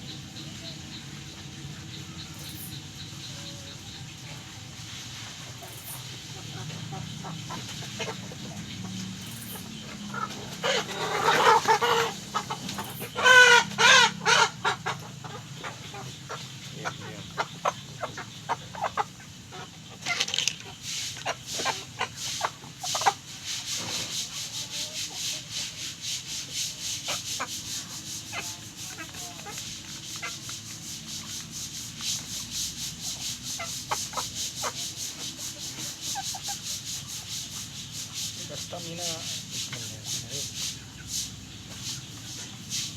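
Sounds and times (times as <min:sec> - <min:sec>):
chickens clucking and squawking: 0:00.0 - 0:42.9.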